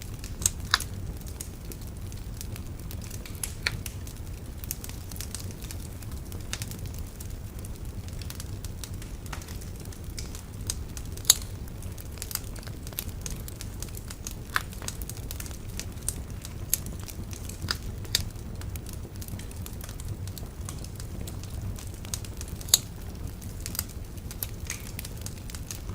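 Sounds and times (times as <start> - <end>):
bonfire crackling and popping: 0.0 - 25.9.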